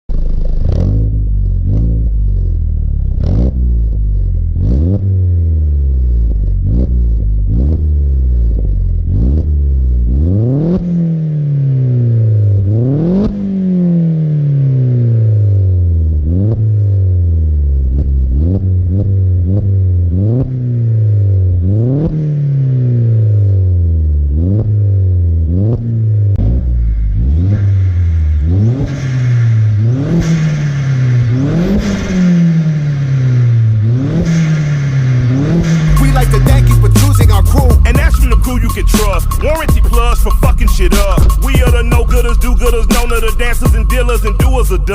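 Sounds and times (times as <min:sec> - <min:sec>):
car engine revving: 0:00.1 - 0:44.9.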